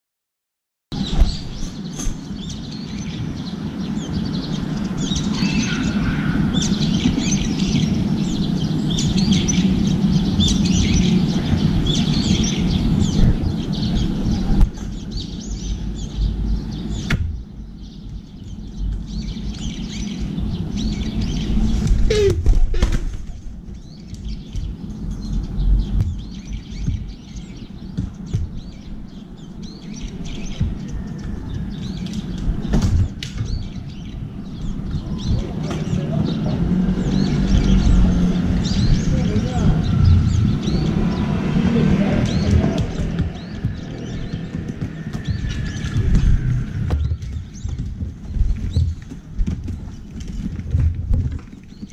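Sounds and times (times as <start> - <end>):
small birds chirping: 0.9 - 51.9
flurry of sharp sounds: 1.0 - 51.9.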